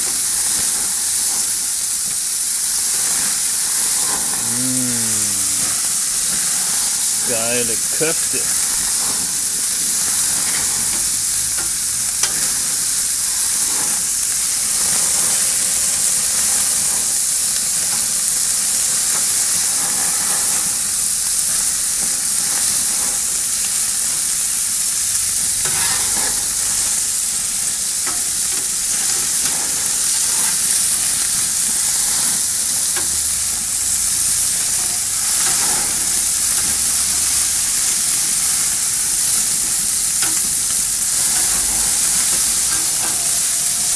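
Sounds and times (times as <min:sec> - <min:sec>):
meat sizzling on a grill: 0:00.0 - 0:43.9.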